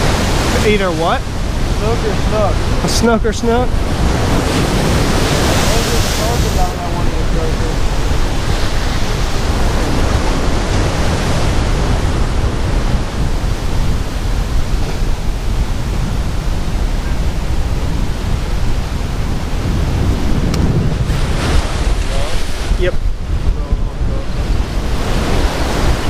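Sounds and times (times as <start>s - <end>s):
rough surf breaking: 0.0s - 26.0s
strong wind on microphone: 0.0s - 26.0s.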